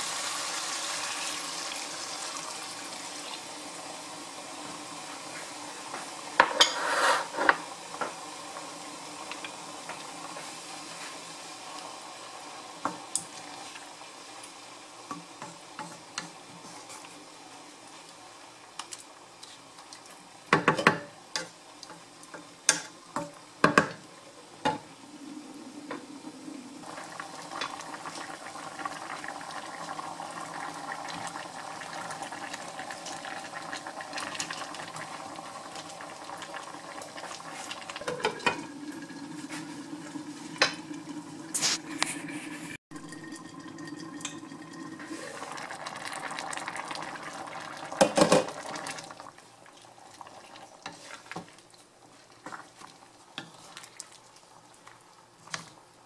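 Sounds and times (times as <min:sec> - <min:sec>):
stew simmering and bubbling: 0:00.0 - 0:56.0.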